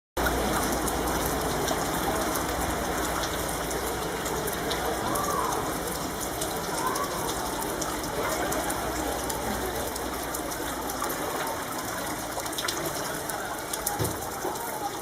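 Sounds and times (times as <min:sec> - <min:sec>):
rain pattering: 0:00.2 - 0:15.0.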